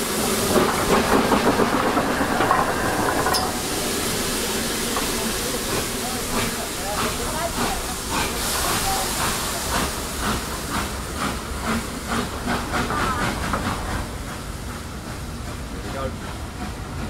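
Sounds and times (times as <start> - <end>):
steady steam hiss: 0.0 - 17.0
steam locomotive exhaust chuffing: 0.0 - 17.0.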